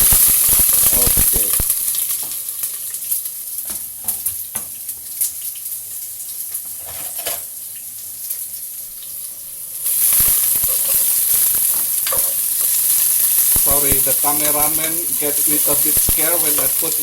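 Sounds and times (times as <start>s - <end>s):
hot oil sizzling: 0.0s - 17.0s
onion and garlic sizzling in oil: 0.0s - 17.0s.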